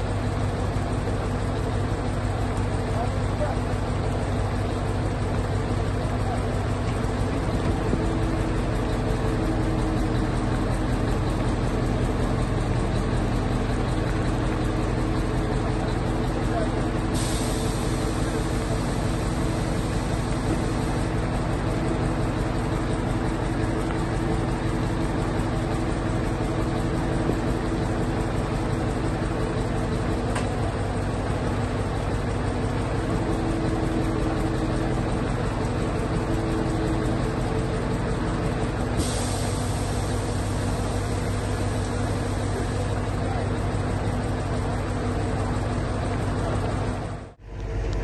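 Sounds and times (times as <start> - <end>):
diesel truck engine running: 0.0 - 48.0.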